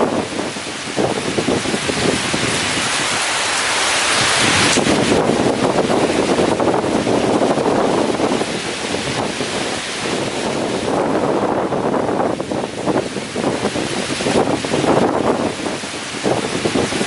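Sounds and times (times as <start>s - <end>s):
gusting wind buffeting microphone: 0.0s - 17.0s
heavy rain: 0.0s - 17.0s.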